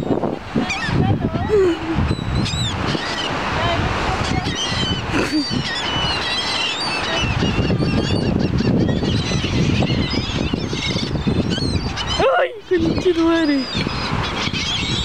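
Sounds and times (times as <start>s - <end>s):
gulls squawking: 0.0s - 15.0s
surf and wind rushing: 0.0s - 15.0s.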